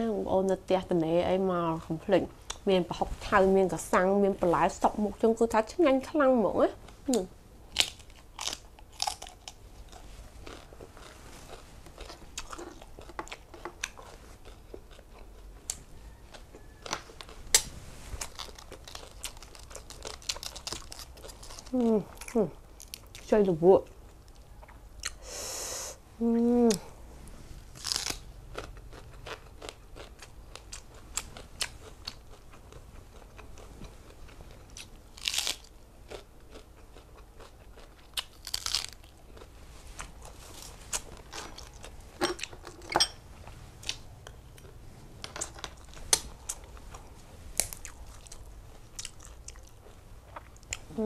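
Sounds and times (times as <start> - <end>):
chewing and crunching food: 7.2 - 25.2, 27.7 - 51.0.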